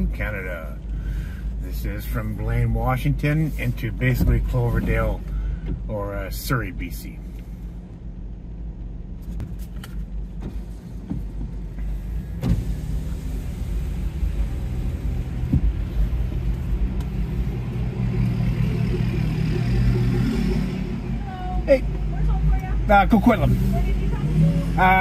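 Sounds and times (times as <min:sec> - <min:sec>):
car engine humming: 0:00.0 - 0:25.0.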